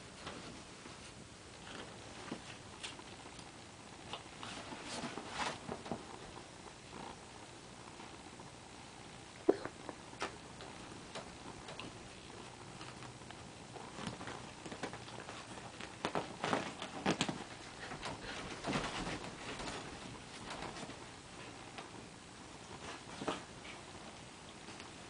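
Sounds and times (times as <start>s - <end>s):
paws scrabbling on bedding: 0.1s - 7.2s, 10.2s - 25.0s.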